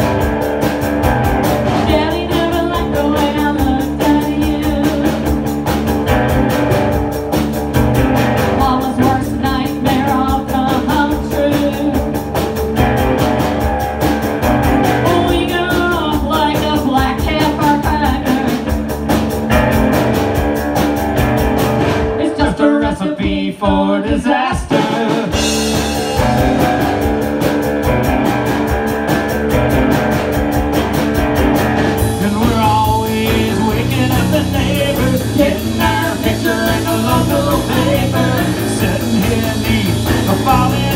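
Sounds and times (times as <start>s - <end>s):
electric guitar: 0.0s - 23.0s, 24.7s - 40.9s
drum kit and cymbals: 0.0s - 40.9s.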